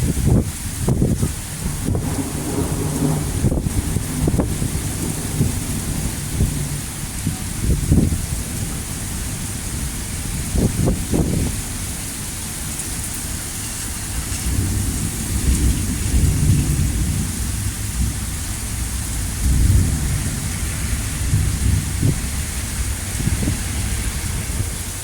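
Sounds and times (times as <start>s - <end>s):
heavy rain pouring: 0.0s - 25.0s
thunder rumble: 0.0s - 25.0s.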